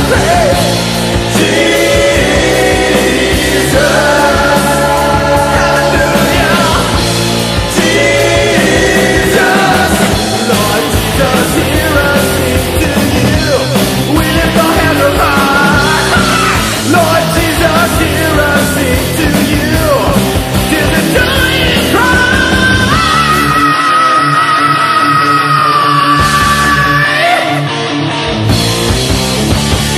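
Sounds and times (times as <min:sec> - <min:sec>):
bending lead guitar notes: 0:00.0 - 0:29.9
heavy metal band playing: 0:00.0 - 0:29.9.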